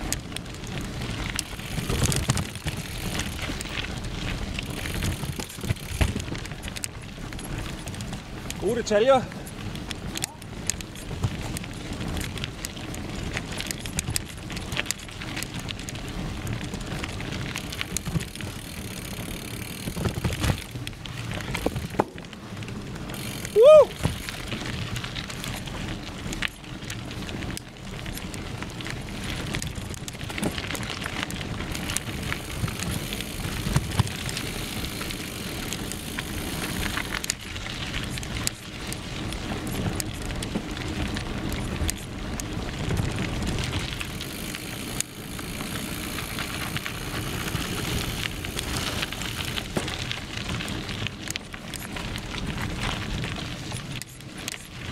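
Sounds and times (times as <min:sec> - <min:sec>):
bike clicks and rattles: 0:00.0 - 0:54.9
bike tyres rolling on dirt trail: 0:00.0 - 0:54.9.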